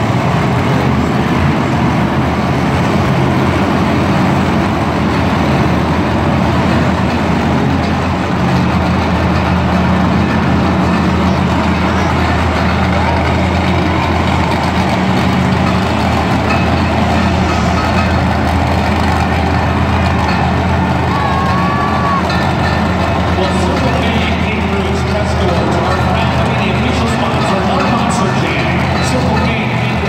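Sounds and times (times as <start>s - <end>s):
crowd chatter: 0.0s - 30.0s
heavy vehicle engine running: 0.0s - 30.0s.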